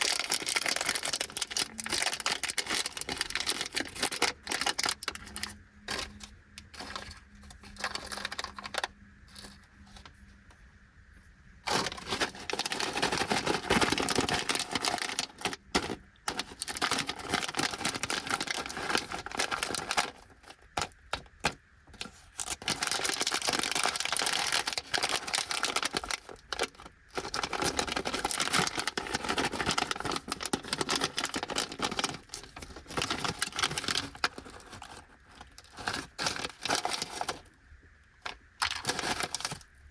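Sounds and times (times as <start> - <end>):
plastic snack bag crinkling: 0.0 - 9.6, 11.6 - 37.5, 38.2 - 39.9.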